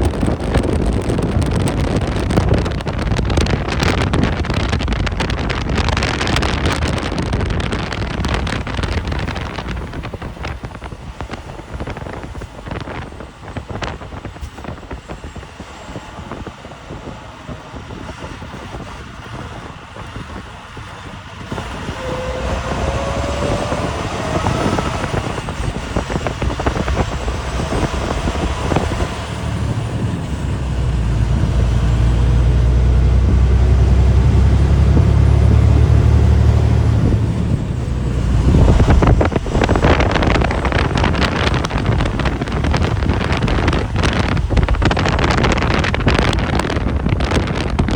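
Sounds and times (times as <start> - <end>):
road and tyre noise: 0.0 - 47.9
vehicle engine: 0.0 - 47.9.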